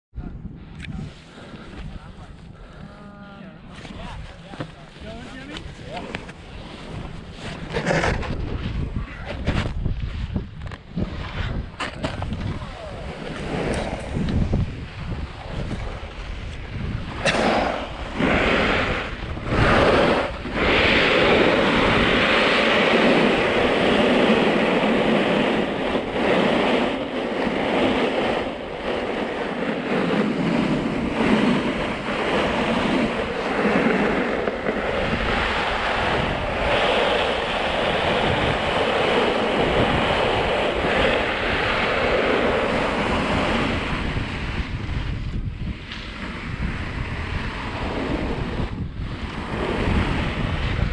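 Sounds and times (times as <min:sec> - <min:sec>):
wind on microphone: 0:00.1 - 0:50.9
ski edges scraping on snow: 0:00.9 - 0:02.9, 0:03.7 - 0:50.9.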